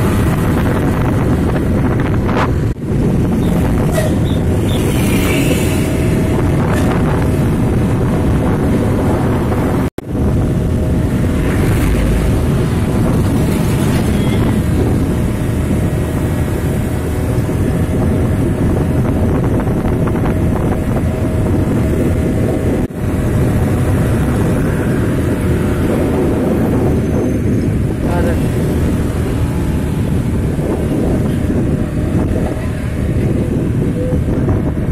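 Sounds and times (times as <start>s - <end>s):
vehicle engine and road noise: 0.0s - 34.9s
wind buffeting microphone: 0.0s - 34.9s.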